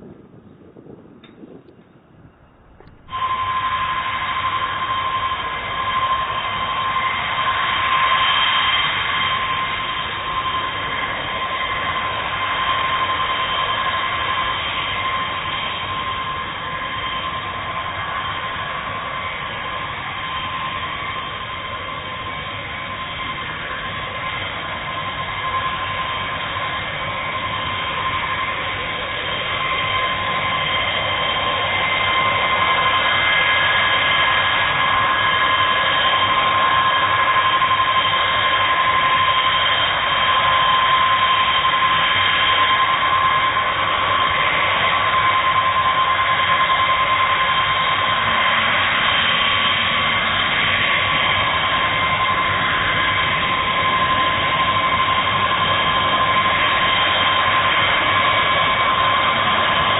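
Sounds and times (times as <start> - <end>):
jet engines whining: 0.0 - 59.9
rushing jet noise: 0.0 - 59.9.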